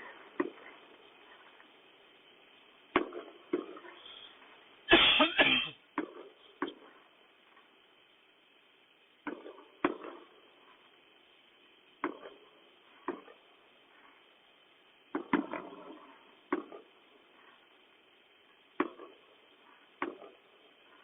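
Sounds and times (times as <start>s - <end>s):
firework bangs: 0.0s - 7.8s, 9.2s - 21.0s
rapid firework crackling: 0.0s - 21.0s.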